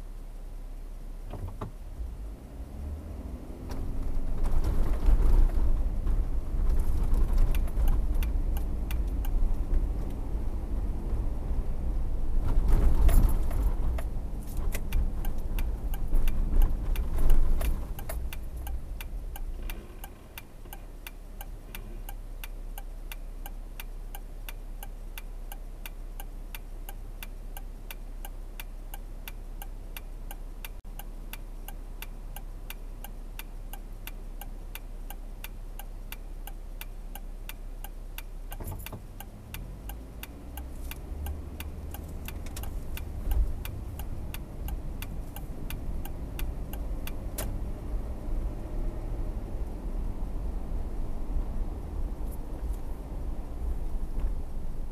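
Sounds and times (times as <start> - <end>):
car engine and road rumble: 0.0 - 54.9
turn signal ticking: 1.2 - 54.9
car idling: 3.4 - 54.9.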